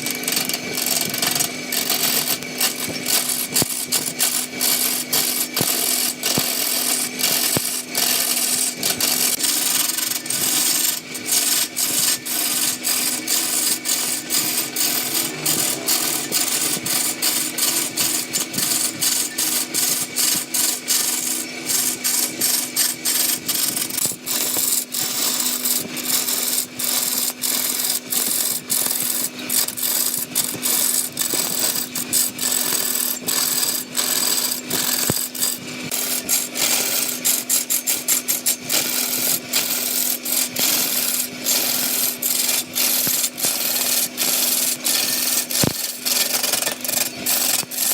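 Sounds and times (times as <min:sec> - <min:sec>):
turning tool scraping wood: 0:00.0 - 0:47.9
wood lathe motor hum: 0:00.0 - 0:47.9.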